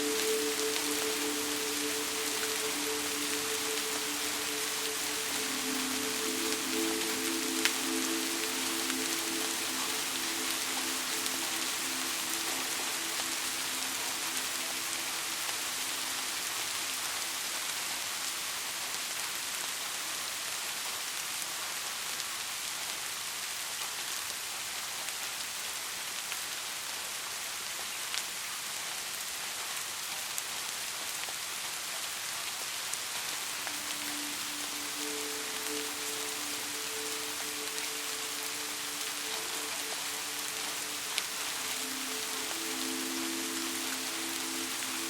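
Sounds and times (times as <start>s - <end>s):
rain pattering on surfaces: 0.0s - 45.0s.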